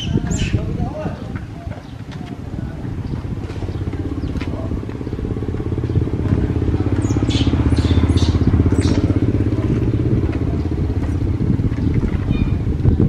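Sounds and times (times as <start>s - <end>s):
engine running with pulsing rumble: 0.6s - 13.0s.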